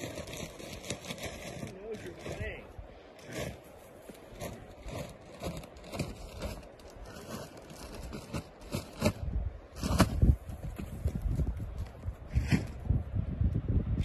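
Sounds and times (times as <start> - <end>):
hooves stepping on dry dirt: 0.0 - 12.9.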